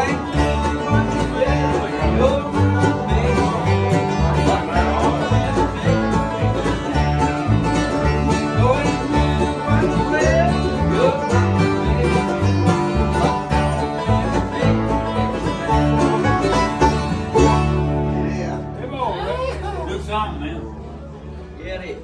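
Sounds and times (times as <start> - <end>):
acoustic guitars strummed: 0.0 - 19.8
banjo rolls: 0.0 - 21.5
upright bass line: 0.0 - 22.0.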